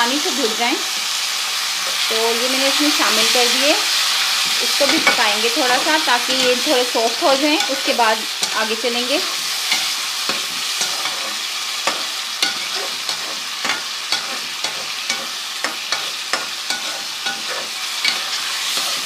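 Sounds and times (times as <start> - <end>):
food sizzling in oil: 0.0 - 19.0
spoon scraping pan: 0.9 - 19.0.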